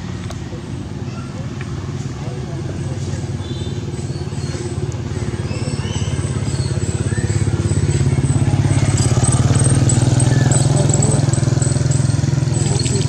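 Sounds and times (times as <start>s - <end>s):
engine running with pulsing hum: 0.0s - 13.0s.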